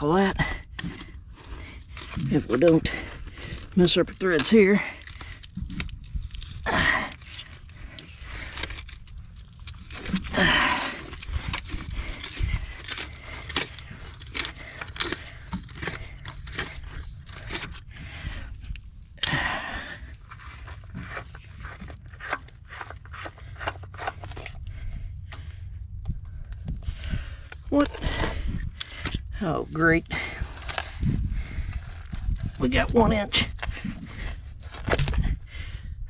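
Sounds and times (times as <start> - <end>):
pipe fitting clicks and scrapes in mud: 0.7 - 35.4.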